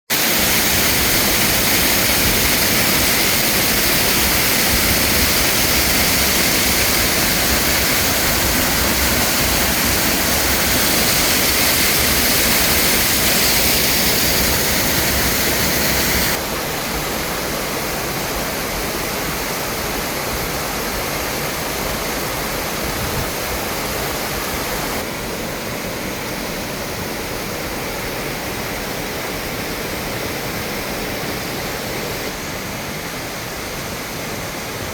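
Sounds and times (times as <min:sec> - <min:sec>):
rushing water: 0:00.1 - 0:34.9.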